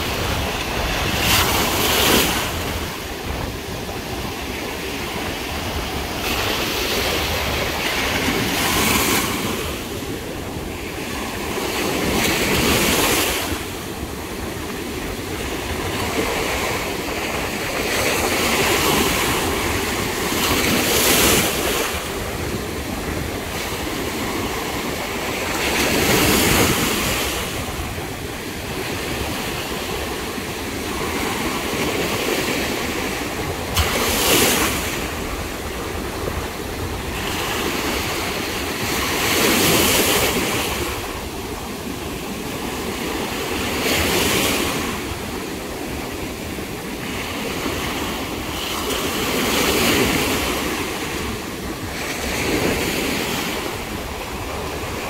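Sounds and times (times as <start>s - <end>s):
ocean surf breaking on sand: 0.0s - 55.0s.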